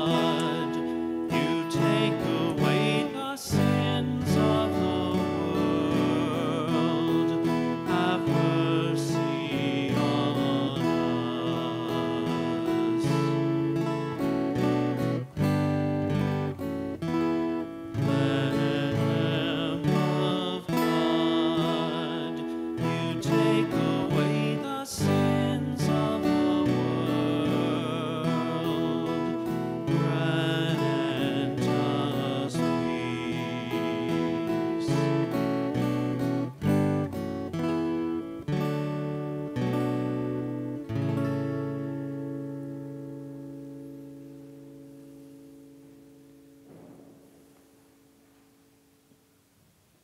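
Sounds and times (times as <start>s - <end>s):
acoustic guitar strumming chords: 0.0s - 49.3s.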